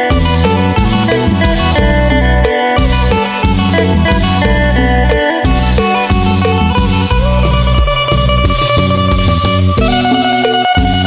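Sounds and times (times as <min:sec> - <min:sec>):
plucked lute melody: 0:00.0 - 0:11.0
steady low beat: 0:00.0 - 0:11.0.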